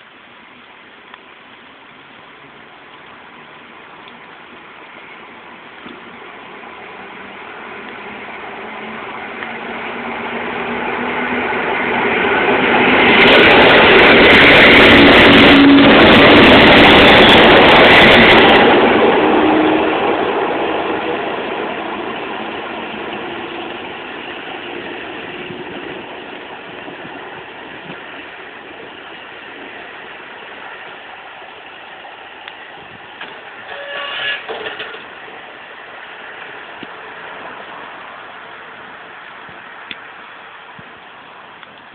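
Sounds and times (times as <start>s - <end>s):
electric train passing: 1.8s - 41.9s.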